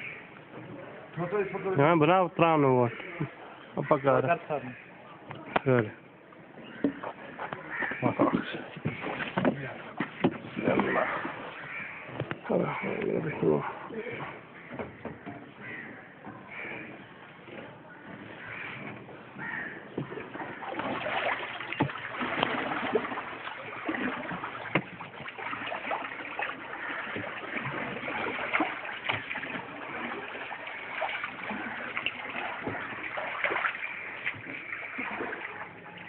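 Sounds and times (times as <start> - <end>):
water splashing around boat: 0.0 - 36.0.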